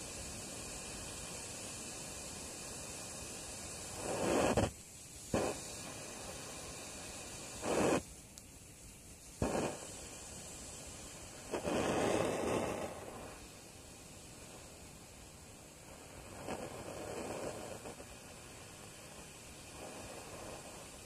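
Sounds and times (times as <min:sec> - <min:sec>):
blow lamp flame hissing: 0:00.0 - 0:21.0
flame rushes: 0:00.0 - 0:21.0.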